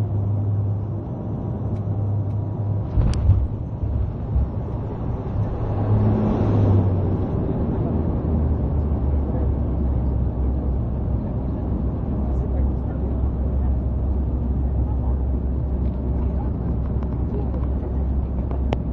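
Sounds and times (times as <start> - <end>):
propeller drone: 0.0 - 18.9
runway rumble: 0.0 - 18.9.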